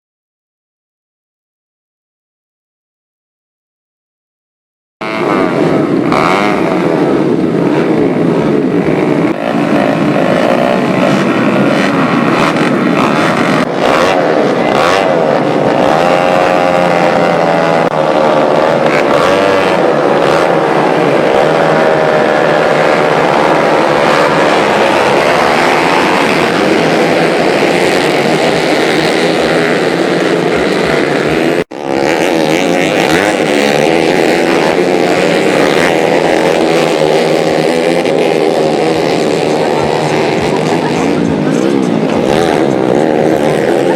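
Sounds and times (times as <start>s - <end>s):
dirt bike engines revving: 5.0s - 43.9s.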